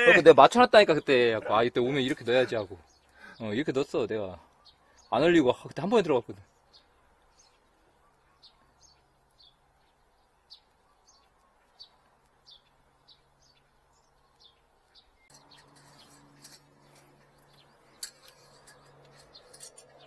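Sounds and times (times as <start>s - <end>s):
small bird chirping faintly: 1.0s - 20.0s.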